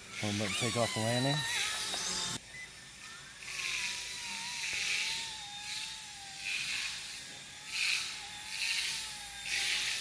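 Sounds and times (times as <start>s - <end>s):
rc helicopter motor whine: 0.1s - 10.0s.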